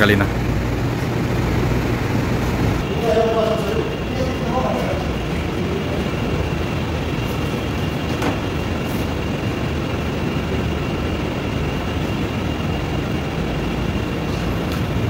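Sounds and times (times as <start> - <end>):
high-pitched machine whine: 0.0 - 15.0
machinery low rumble: 0.0 - 15.0.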